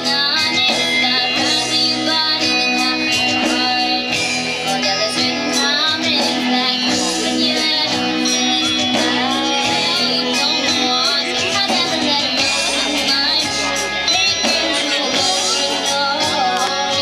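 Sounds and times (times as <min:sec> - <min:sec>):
acoustic guitar: 0:00.0 - 0:17.0
bass: 0:00.0 - 0:17.0
drums: 0:00.0 - 0:17.0
electric lead guitar: 0:00.0 - 0:17.0
woman singing: 0:00.0 - 0:17.0.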